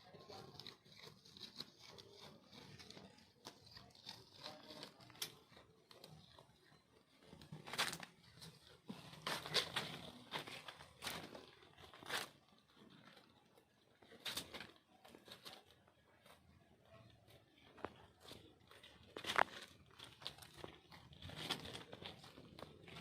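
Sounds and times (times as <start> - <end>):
rustling and crinkling: 0.1 - 23.0.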